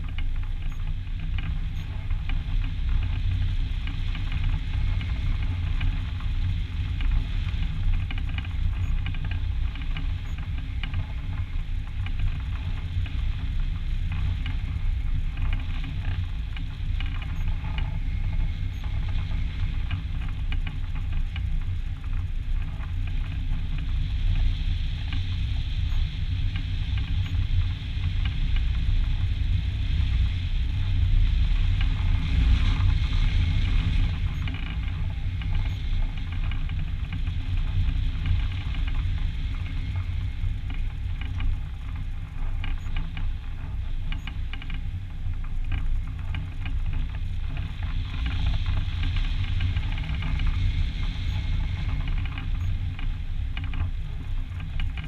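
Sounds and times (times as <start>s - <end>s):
crackle of wind buffeting: 0.0s - 55.0s
wind rumble on camera: 0.0s - 55.0s.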